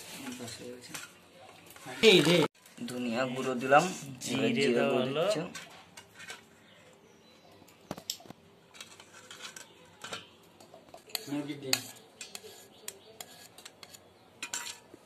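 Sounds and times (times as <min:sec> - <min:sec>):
metal bowls and utensils clinking: 0:00.0 - 0:15.0.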